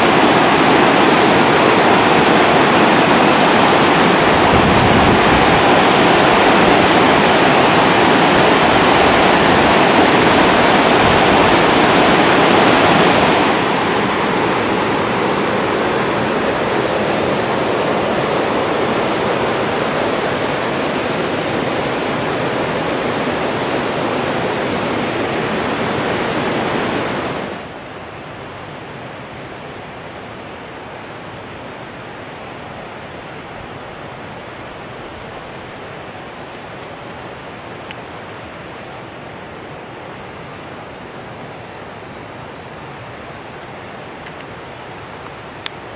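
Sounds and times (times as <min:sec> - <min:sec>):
water rushing over rapids: 0:00.0 - 0:45.9.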